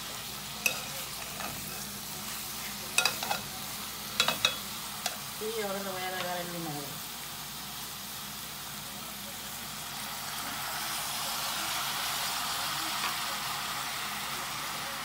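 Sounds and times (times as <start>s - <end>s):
meat and vegetables sizzling in pot: 0.0s - 15.0s.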